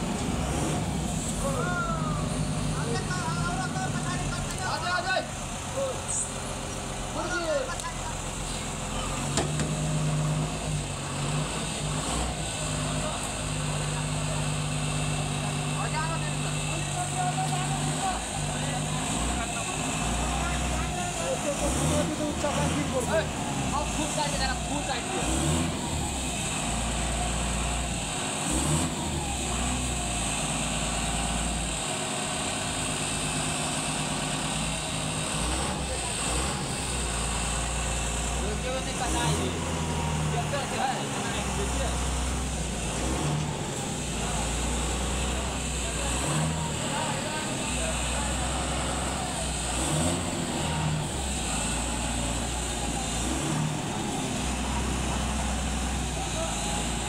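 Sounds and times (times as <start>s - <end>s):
truck diesel engine rumbling: 0.0s - 57.0s.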